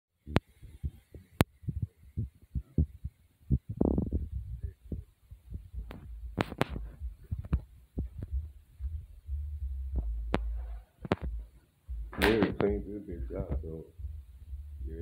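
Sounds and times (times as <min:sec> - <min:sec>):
microphone jostling thumps: 0:00.6 - 0:14.9.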